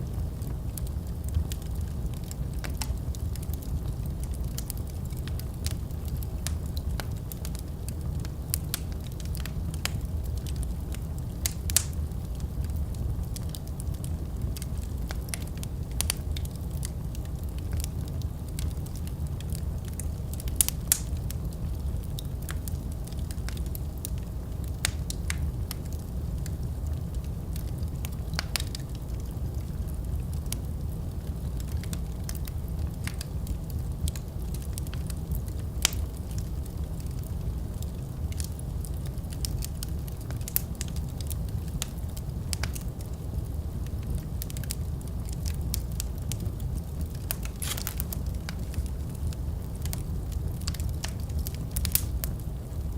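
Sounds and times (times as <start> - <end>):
fire crackles and pops: 0.0 - 52.9
low rumble of flames: 0.0 - 52.9.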